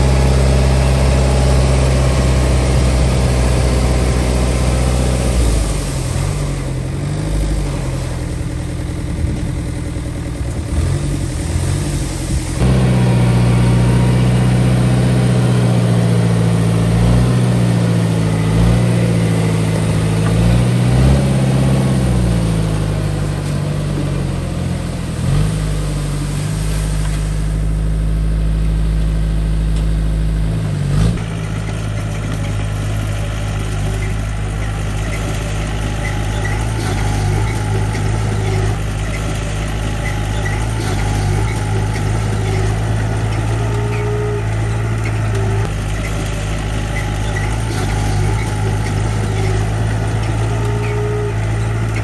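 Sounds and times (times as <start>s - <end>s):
heavy machine engine running: 0.0s - 52.0s.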